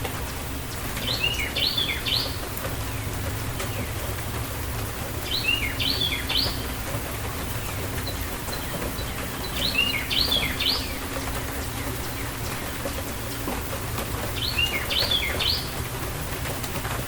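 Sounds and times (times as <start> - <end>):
steady rain falling: 0.0 - 17.0
songbird chirping: 0.7 - 16.0.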